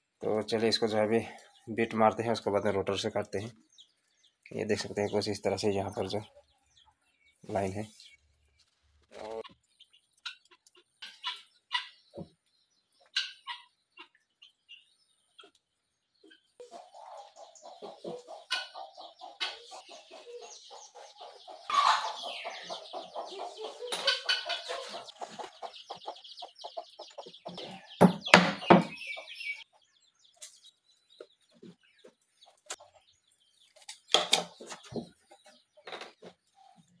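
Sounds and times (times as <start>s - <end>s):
chickens clucking: 0.1s - 37.0s.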